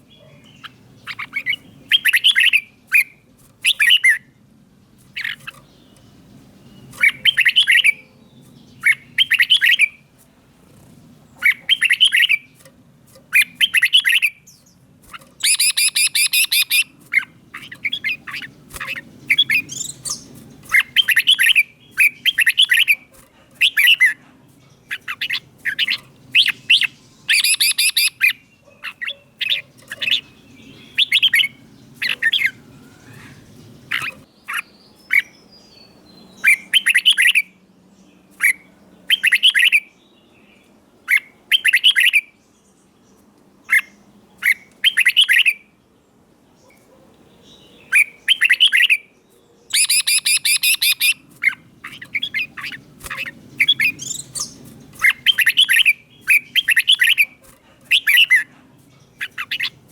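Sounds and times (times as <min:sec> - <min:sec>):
bird singing short clear phrases: 0:00.0 - 0:10.1, 0:11.0 - 0:45.7, 0:46.5 - 0:59.9
harsh bird calls: 0:00.0 - 0:42.4, 0:46.6 - 0:59.9.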